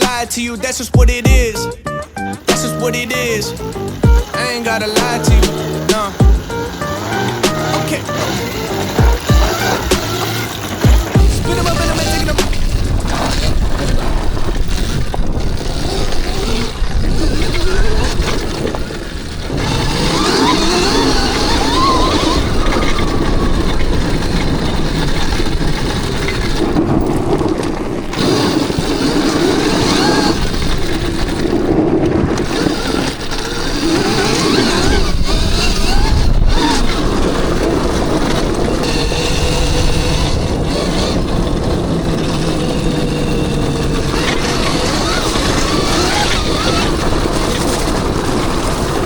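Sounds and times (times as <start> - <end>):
dirt bike engines revving: 0.0 - 49.0.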